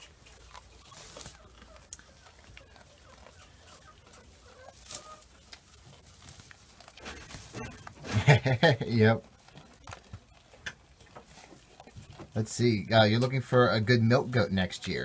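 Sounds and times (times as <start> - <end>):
goats chewing hay: 0.0 - 15.0.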